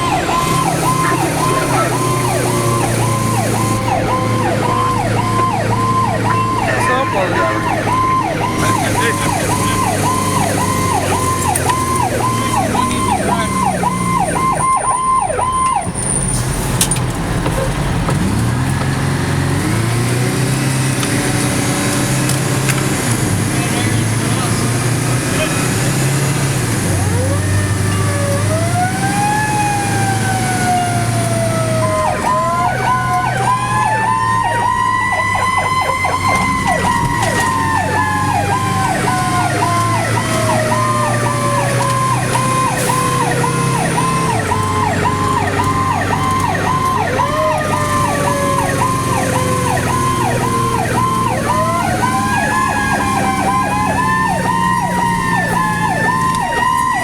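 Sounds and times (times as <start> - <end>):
pulsing siren: 0.0 - 16.5, 19.6 - 57.0
truck engine drone: 0.0 - 57.0
wailing siren: 0.0 - 57.0.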